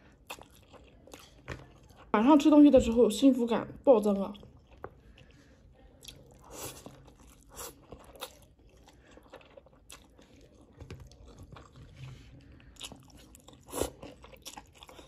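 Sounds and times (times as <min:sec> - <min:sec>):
chewing and smacking: 0:00.0 - 0:02.1, 0:04.3 - 0:15.0.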